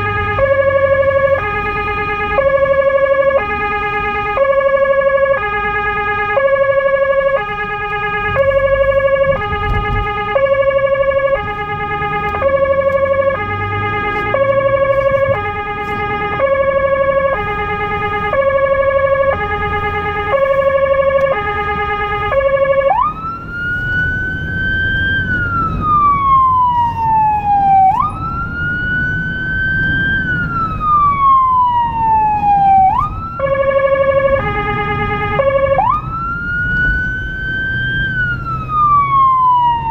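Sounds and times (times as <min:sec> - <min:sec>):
emergency siren: 0:00.0 - 0:39.9
engine and road rumble: 0:00.0 - 0:39.9.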